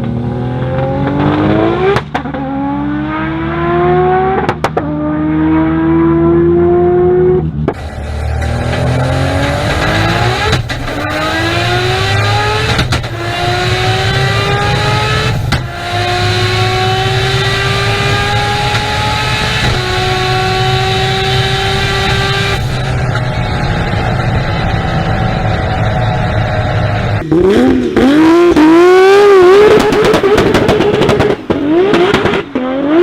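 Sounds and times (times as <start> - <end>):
car engine accelerating through gears: 0.0 - 33.0.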